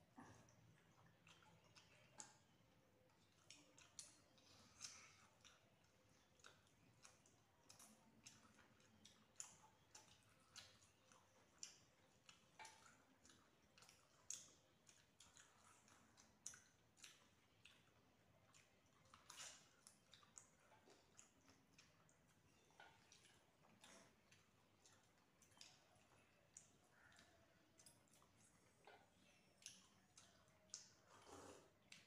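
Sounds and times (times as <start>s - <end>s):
people eating by hand: 0.0s - 32.0s.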